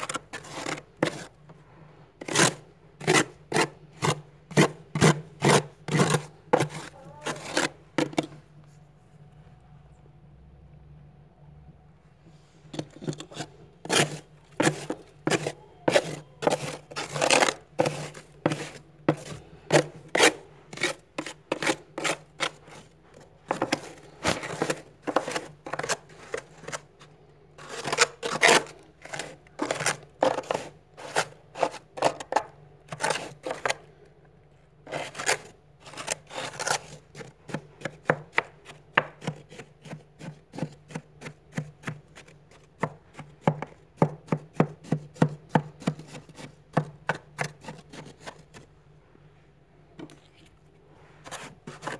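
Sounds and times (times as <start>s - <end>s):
plastic card scraping frost: 0.0s - 1.4s, 2.2s - 8.4s, 12.6s - 34.0s, 34.8s - 43.4s, 44.6s - 48.7s, 50.2s - 51.9s.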